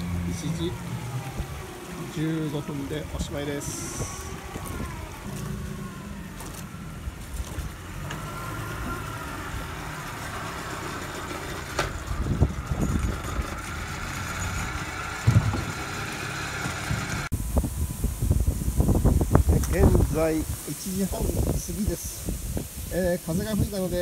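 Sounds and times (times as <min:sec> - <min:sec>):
boat engine whining: 0:00.0 - 0:22.3.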